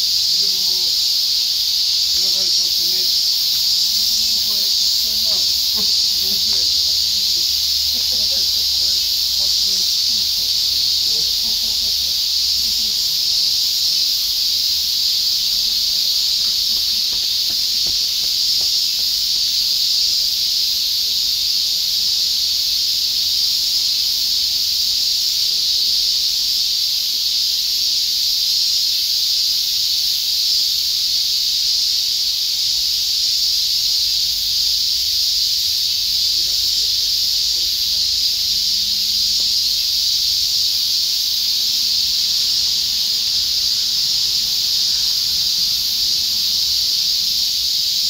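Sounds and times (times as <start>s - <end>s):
cicadas droning: 0.0s - 48.0s.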